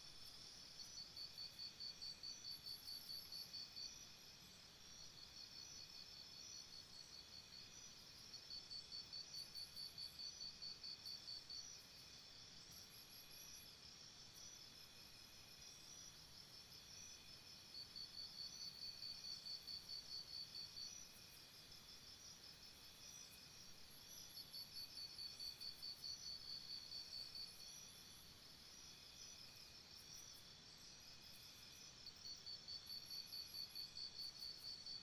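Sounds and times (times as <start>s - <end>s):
cricket chirping: 0.0s - 35.0s
soft crickets chirping: 0.0s - 35.0s.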